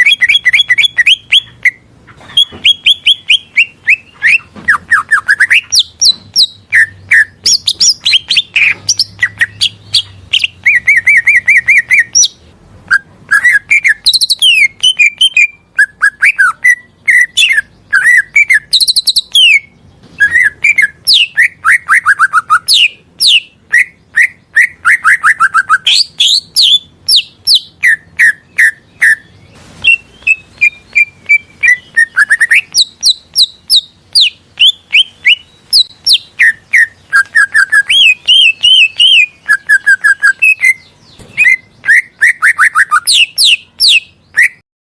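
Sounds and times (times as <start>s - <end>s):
bird singing chirps and whistles: 0.0s - 44.6s.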